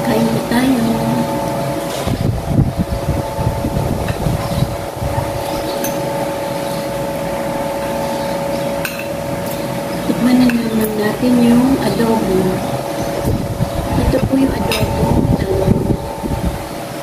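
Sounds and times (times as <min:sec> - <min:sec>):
electric fan hum: 0:00.0 - 0:17.0.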